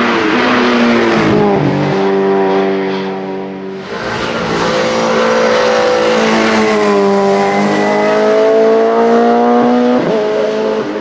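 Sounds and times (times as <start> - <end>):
racing engine accelerating: 0.0 - 11.0.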